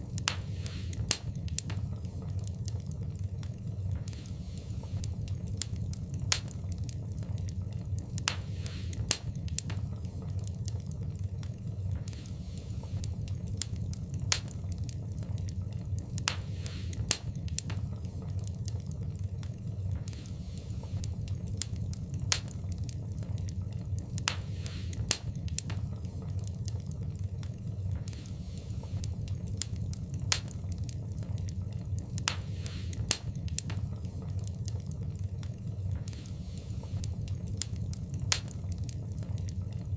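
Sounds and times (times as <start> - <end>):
fireplace fire crackling: 0.0 - 39.9
low rumble of flames: 0.0 - 39.9.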